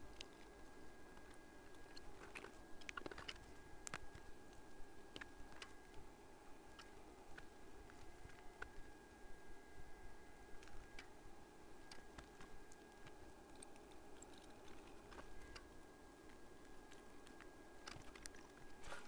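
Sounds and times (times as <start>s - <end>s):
soldering ticks and crackling: 0.0s - 8.9s, 10.5s - 18.8s
faint high whine: 0.0s - 19.0s.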